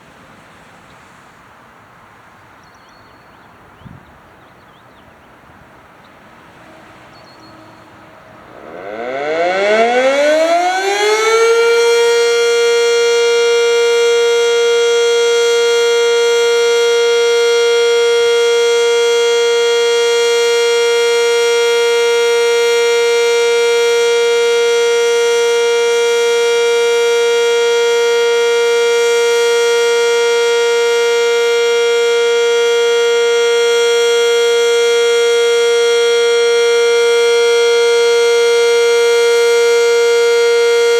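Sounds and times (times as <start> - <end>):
fire siren rising and holding: 7.5 - 40.9.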